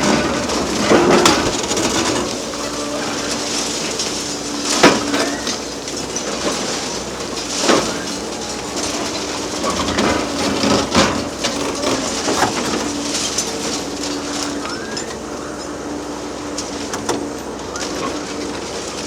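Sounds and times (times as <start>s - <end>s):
excavator engine and hydraulics hum: 0.0s - 19.0s
rubble falling: 0.0s - 19.0s.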